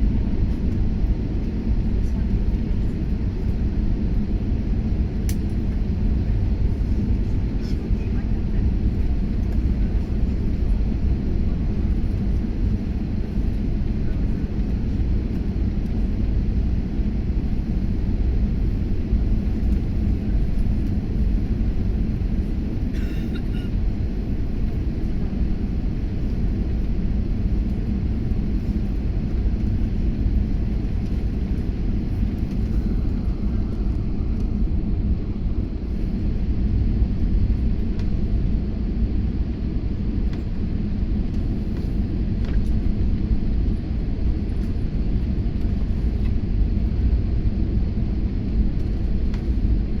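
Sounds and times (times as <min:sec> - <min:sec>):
jet engines rumbling in cabin: 0:00.0 - 0:50.0.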